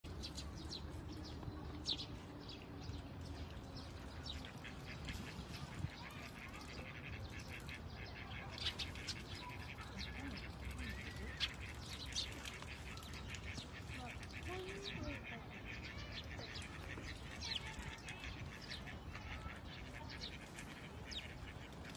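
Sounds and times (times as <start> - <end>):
small birds chirping: 0.1 - 21.9.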